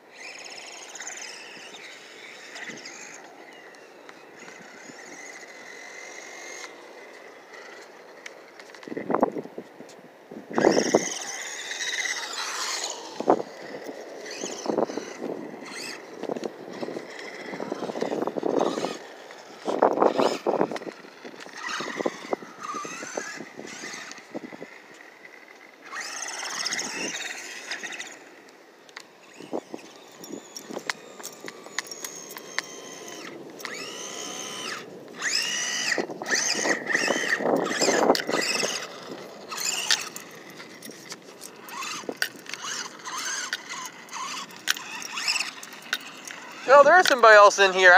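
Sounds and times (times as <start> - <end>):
toy truck motor whining: 0.0 - 9.4, 10.5 - 47.9.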